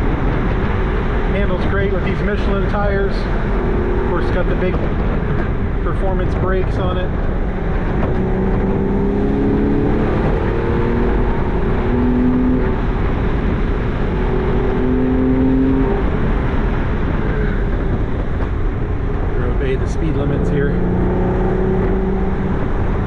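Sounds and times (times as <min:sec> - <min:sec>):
car engine accelerating: 0:00.0 - 0:23.0
road and wind rumble: 0:00.0 - 0:23.0.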